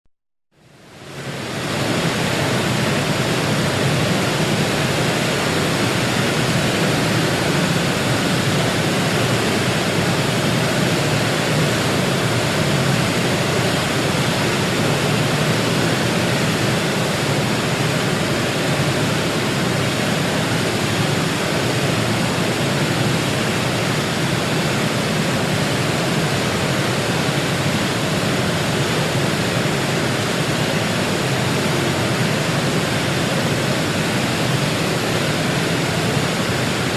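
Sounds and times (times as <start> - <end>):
large waterfall rushing: 0.6 - 36.9.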